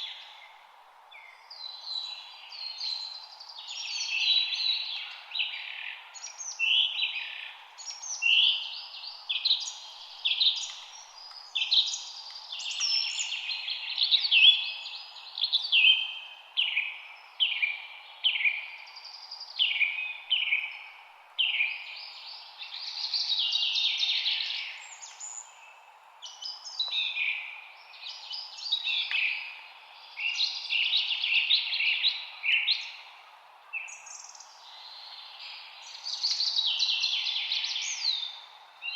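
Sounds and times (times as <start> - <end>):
faint background hiss: 0.0 - 38.9
songbirds singing: 0.0 - 38.9.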